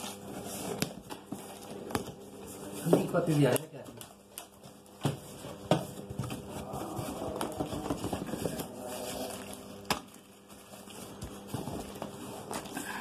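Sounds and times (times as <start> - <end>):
cardboard and plastic rustling: 0.0 - 13.0.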